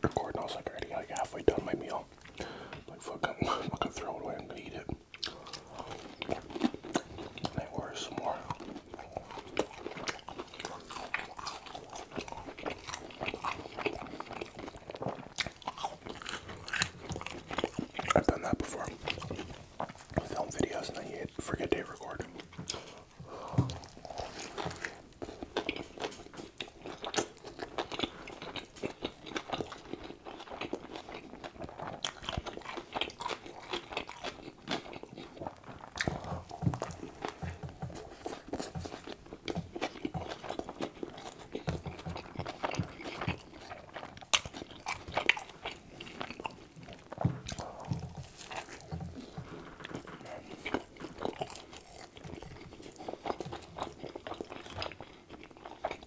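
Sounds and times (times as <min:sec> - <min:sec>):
man chewing burger: 0:00.0 - 0:56.0
mouth clicks and smacks: 0:00.0 - 0:56.0.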